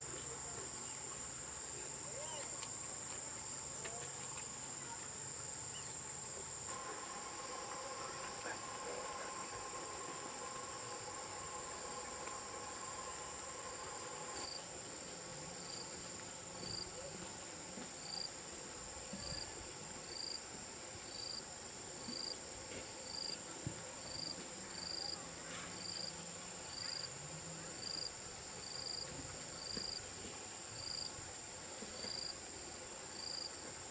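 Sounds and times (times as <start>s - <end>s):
insects droning in chorus: 0.1s - 33.9s.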